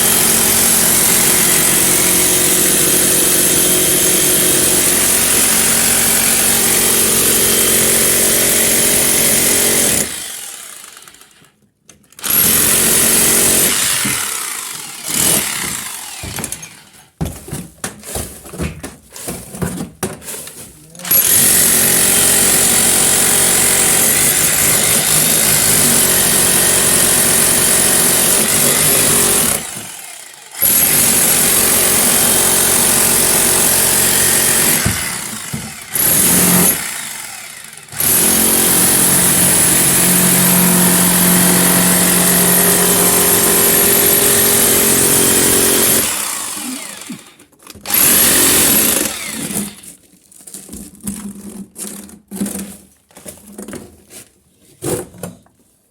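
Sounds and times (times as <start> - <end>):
hammer drill chiselling wall: 0.0 - 17.4, 21.0 - 50.0.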